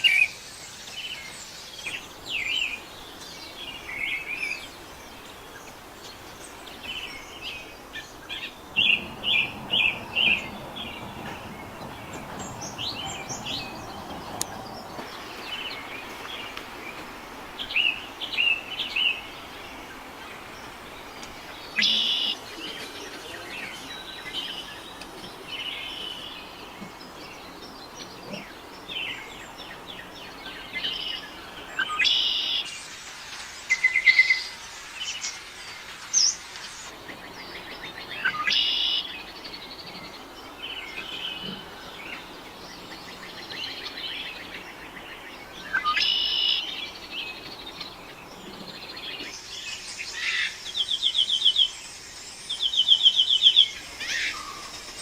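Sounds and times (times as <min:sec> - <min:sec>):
birds chirping and calling: 0:00.0 - 0:55.0
steady background hiss: 0:00.0 - 0:55.0.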